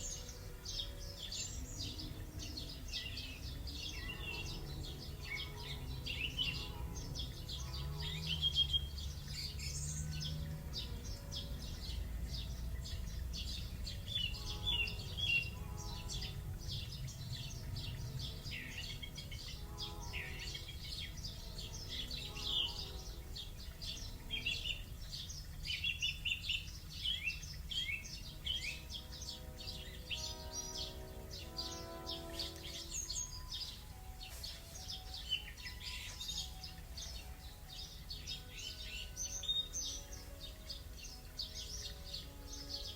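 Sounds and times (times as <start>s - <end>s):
songbirds chirping and trilling: 0.0s - 42.9s.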